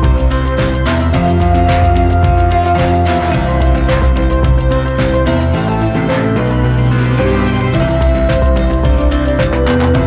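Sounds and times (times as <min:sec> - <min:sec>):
background music with bass and beat: 0:00.0 - 0:10.0.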